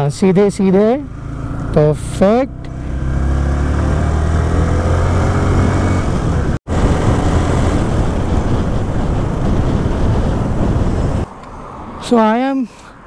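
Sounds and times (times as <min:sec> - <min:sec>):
wind and road noise: 0:00.0 - 0:13.0
motorcycle engine droning: 0:00.2 - 0:11.2.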